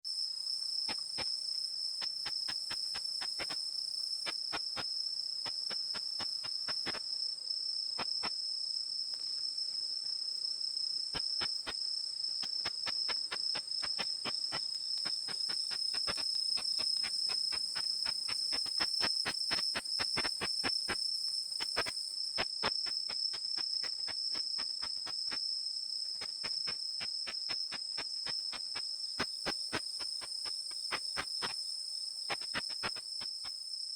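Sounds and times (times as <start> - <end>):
sharp insect ticks: 0.7 - 7.2, 11.1 - 33.8.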